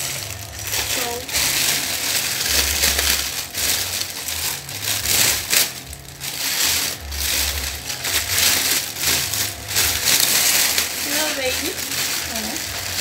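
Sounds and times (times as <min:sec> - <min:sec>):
plastic film crinkling: 0:00.0 - 0:13.0.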